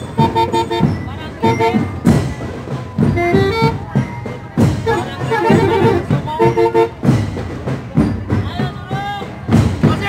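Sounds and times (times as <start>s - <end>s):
crowd voices: 0.0s - 10.0s
music with a beat: 0.0s - 10.0s.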